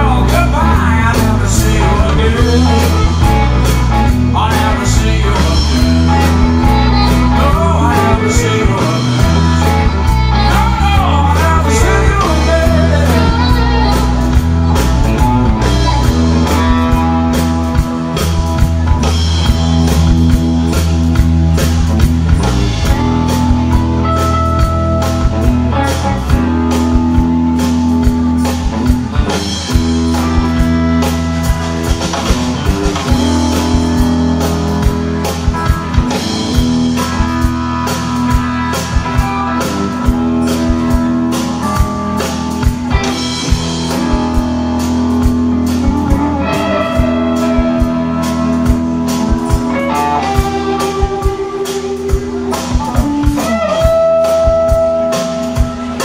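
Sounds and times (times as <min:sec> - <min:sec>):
drum kit beat: 0:00.0 - 0:56.0
electric guitars: 0:00.0 - 0:56.0.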